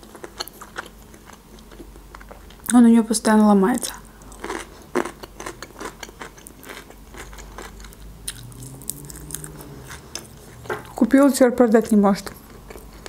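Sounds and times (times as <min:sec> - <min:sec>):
chewing crisp food: 0:00.0 - 0:02.8, 0:03.8 - 0:11.0, 0:12.2 - 0:13.0.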